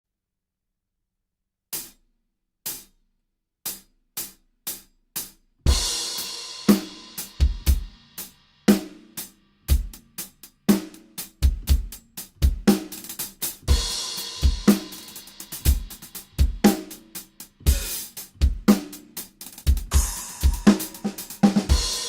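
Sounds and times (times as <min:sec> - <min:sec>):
drum groove kick and snare: 0:01.8 - 0:02.0, 0:02.7 - 0:03.0, 0:03.7 - 0:22.0.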